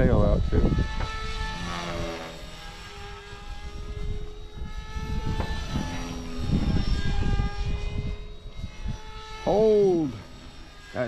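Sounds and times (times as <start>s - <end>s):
wind buffeting microphone: 0.0s - 10.8s
rc helicopter whine: 0.0s - 11.0s.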